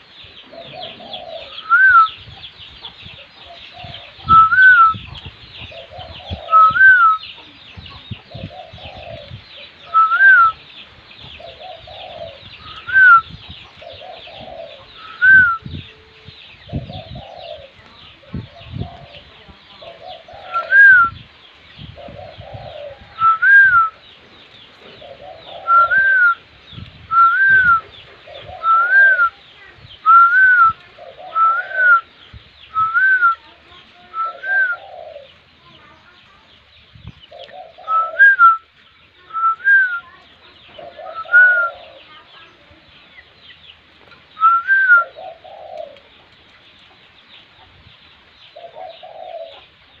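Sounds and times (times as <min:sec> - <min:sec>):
dove cooing: 0:00.0 - 0:21.2, 0:21.9 - 0:35.9, 0:37.3 - 0:43.4, 0:44.0 - 0:46.4, 0:48.5 - 0:50.0.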